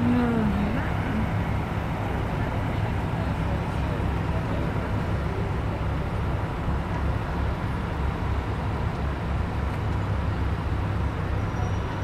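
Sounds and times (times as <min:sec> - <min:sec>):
cars idling in traffic jam: 0:00.0 - 0:12.0.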